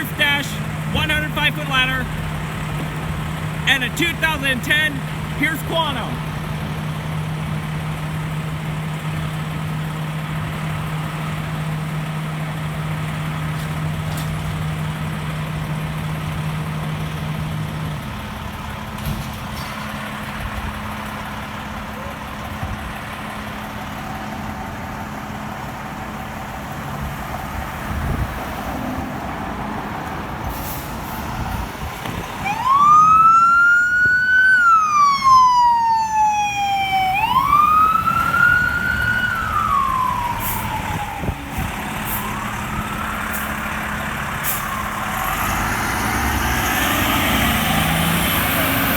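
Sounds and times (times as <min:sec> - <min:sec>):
fire truck siren wailing: 0:00.0 - 0:13.9, 0:21.2 - 0:48.9
fire truck engine hum: 0:00.0 - 0:48.9.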